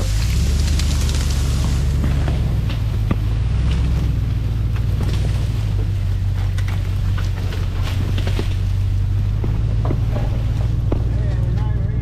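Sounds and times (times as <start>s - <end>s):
car engine and tyres drone: 0.0s - 12.0s.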